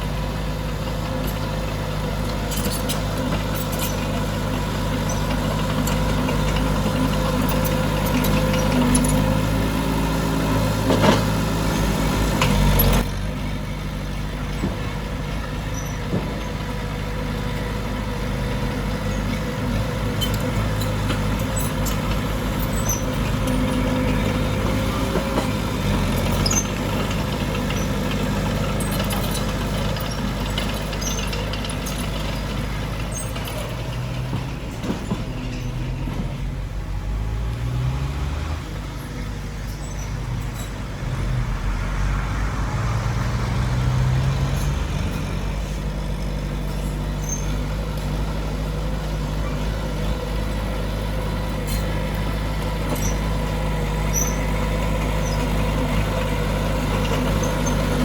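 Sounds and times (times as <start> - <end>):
heavy diesel machinery working: 0.0 - 58.0.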